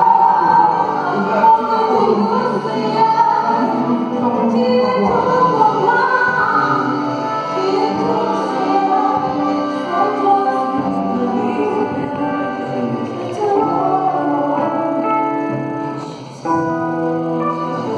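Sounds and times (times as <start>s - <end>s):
group singing gospel: 0.0s - 14.9s
keyboard chords: 0.0s - 17.9s.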